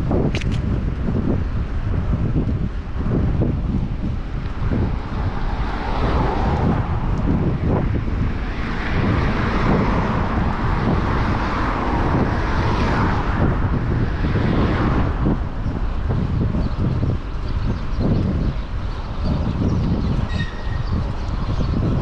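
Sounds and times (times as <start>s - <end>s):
city traffic noise: 0.0s - 22.0s
wind buffeting microphone: 0.0s - 22.0s.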